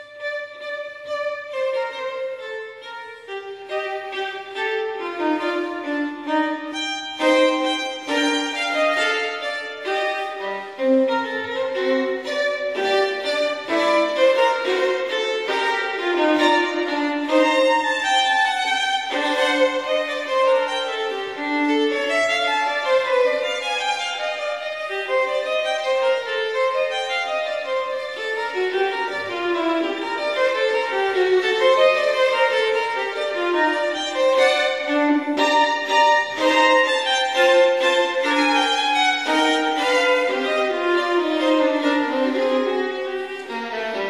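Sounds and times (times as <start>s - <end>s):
violin melody: 0.0s - 44.0s.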